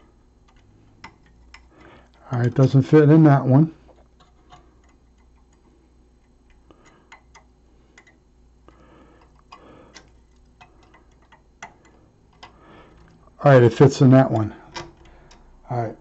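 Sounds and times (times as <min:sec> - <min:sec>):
small metallic clicks: 0:00.4 - 0:02.8, 0:03.9 - 0:13.3, 0:14.3 - 0:15.6.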